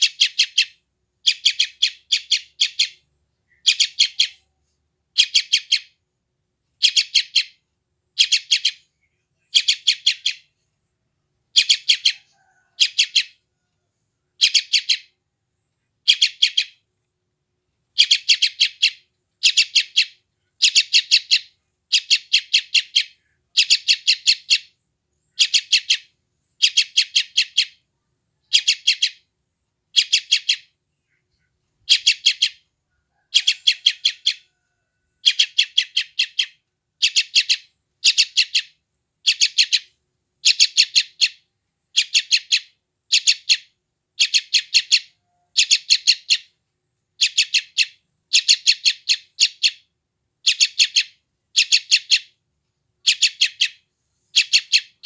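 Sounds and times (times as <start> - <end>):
young bird begging chirps: 0.0 - 4.5, 5.2 - 6.0, 6.8 - 7.6, 8.2 - 10.5, 11.5 - 13.4, 14.4 - 15.1, 16.0 - 16.8, 18.0 - 29.3, 29.9 - 34.6, 35.2 - 46.6, 47.2 - 52.4, 53.0 - 55.0.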